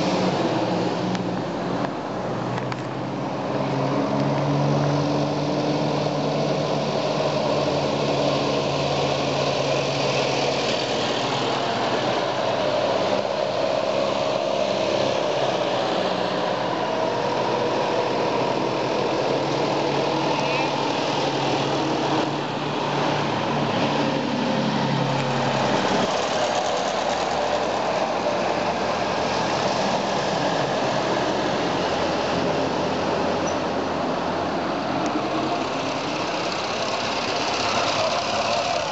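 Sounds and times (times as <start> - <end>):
tractor engines driving past: 0.0 - 38.9.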